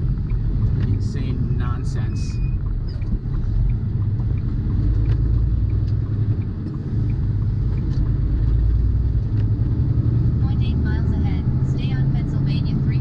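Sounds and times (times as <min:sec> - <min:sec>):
diesel truck engine rumble: 0:00.0 - 0:13.0
road noise: 0:00.0 - 0:13.0.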